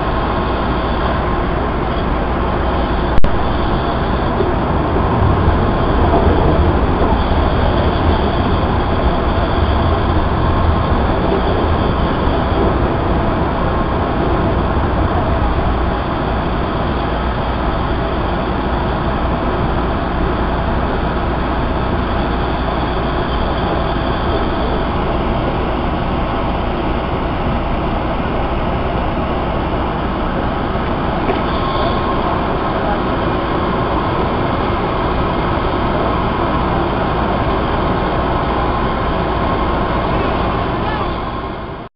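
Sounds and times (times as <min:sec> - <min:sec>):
subway car wheels rumbling on rail: 0:00.0 - 0:41.9.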